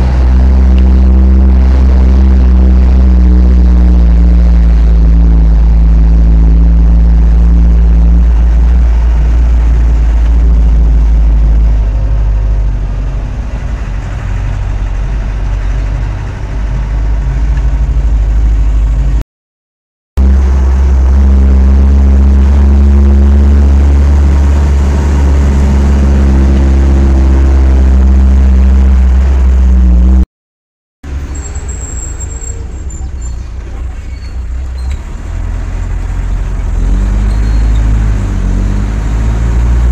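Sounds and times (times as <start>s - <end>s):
vehicle engine drone from cab: 0.0s - 19.2s, 20.2s - 30.2s, 31.0s - 39.9s.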